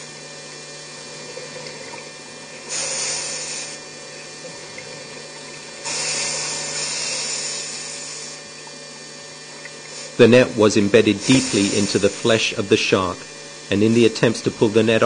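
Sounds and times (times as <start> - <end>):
steady low hum: 0.0 - 15.0
exhaled bubbles underwater: 0.3 - 13.6.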